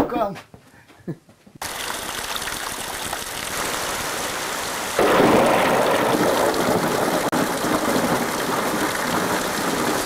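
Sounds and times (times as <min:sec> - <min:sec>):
heavy rain falling: 0:01.6 - 0:10.0
rainwater pouring off roof: 0:01.6 - 0:10.0.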